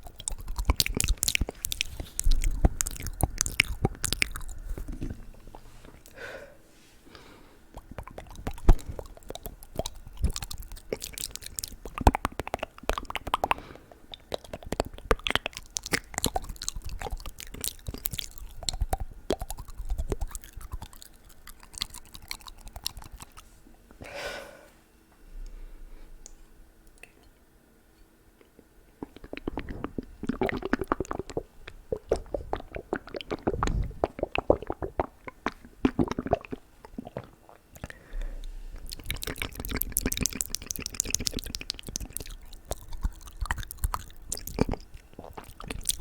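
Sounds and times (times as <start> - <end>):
tongue clicks and lip smacks: 0.0 - 6.2, 7.7 - 23.5, 26.2 - 27.4, 28.4 - 38.0, 38.8 - 46.0.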